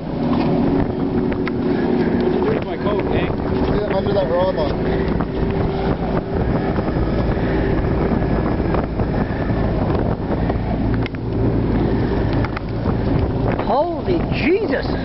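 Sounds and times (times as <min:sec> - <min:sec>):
boat on choppy water: 0:00.0 - 0:15.0
outboard motor running: 0:00.0 - 0:15.0
wind buffeting microphone: 0:00.0 - 0:15.0.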